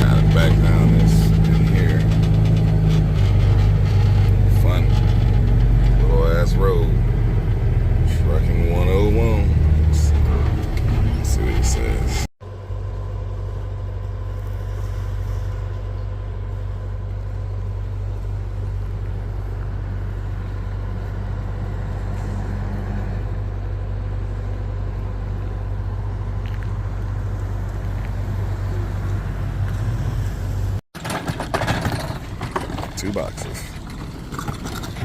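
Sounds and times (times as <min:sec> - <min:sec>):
truck diesel engine running: 0:00.0 - 0:35.0.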